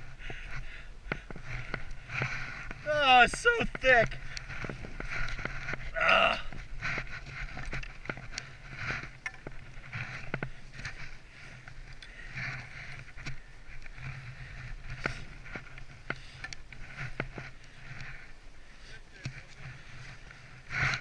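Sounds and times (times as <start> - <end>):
low rumble of movement: 0.0 - 21.0
skis swishing through powder snow: 1.3 - 21.0.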